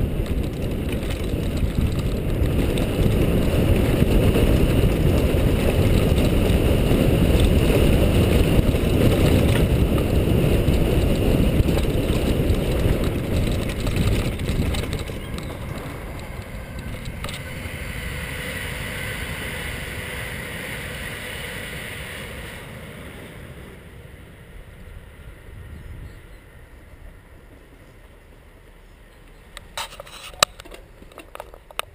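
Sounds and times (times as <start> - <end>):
bike tyre rumble: 0.0 - 31.9
wind buffeting microphone: 0.0 - 31.9.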